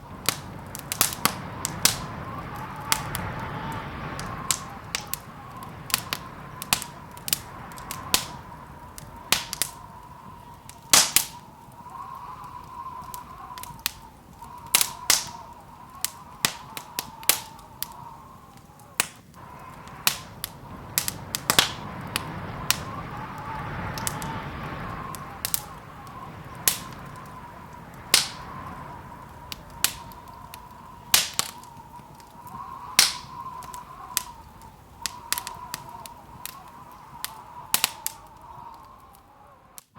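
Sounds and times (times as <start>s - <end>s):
pops and snaps of fire: 0.0s - 39.9s
rushing of flames: 0.0s - 39.9s
wood fire crackling: 0.0s - 39.9s.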